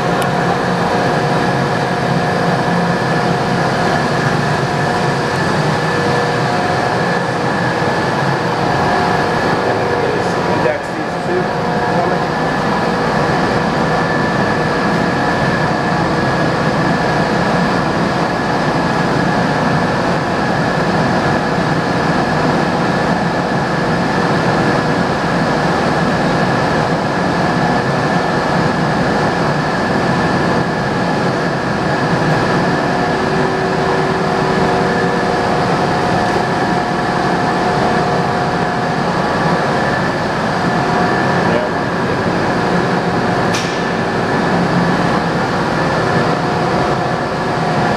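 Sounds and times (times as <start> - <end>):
lathe running: 0.0 - 47.9.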